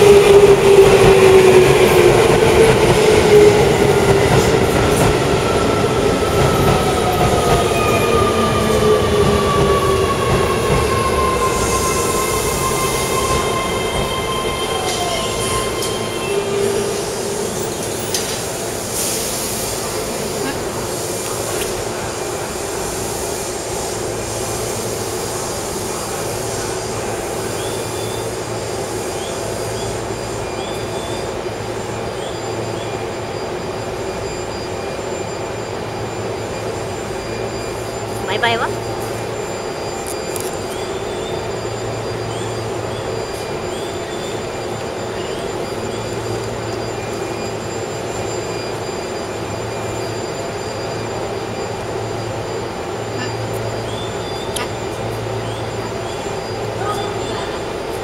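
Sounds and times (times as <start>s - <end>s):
train equipment humming: 0.0s - 58.0s.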